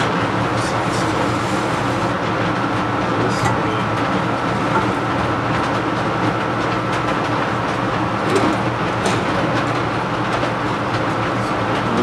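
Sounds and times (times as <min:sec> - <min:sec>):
blower running with low hum: 0:00.0 - 0:12.0.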